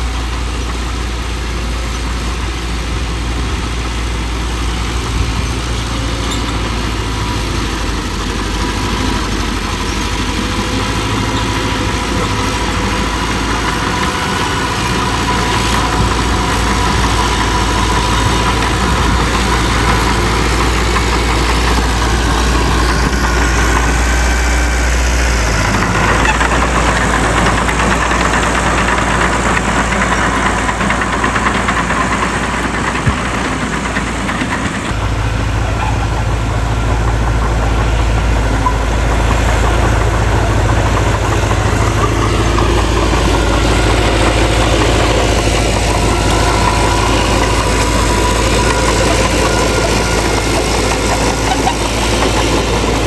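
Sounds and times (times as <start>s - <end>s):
heavy diesel machinery rumble: 0.0s - 53.0s.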